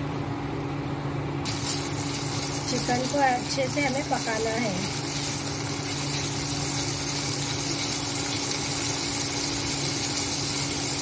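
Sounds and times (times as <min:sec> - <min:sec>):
chicken sizzling in oil: 0:01.4 - 0:11.0.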